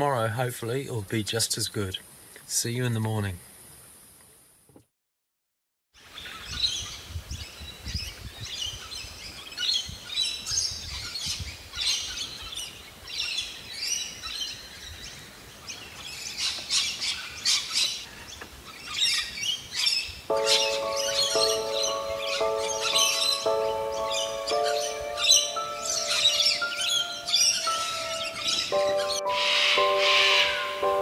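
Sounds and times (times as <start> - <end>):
birds chirping and calling: 6.0 - 31.0.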